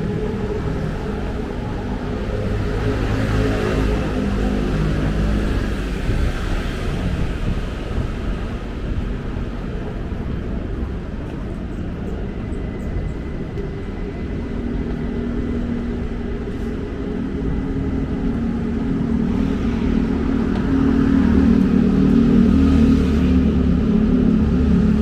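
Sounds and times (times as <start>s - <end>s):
city traffic rumble: 0.0s - 25.0s
vehicle engines running: 0.0s - 25.0s.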